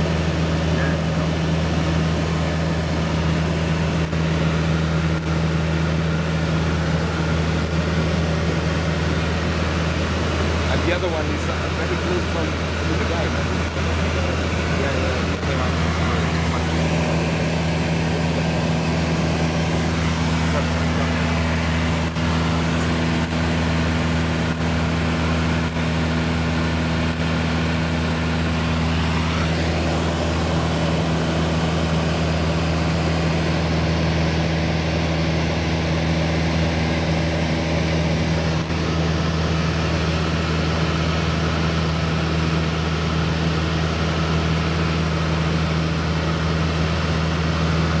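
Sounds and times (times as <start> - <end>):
light aircraft engine drone: 0.0 - 48.0.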